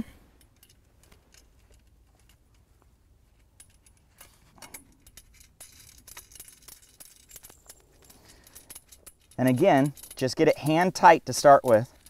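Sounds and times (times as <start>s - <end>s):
metal hardware clinking: 0.0s - 12.0s.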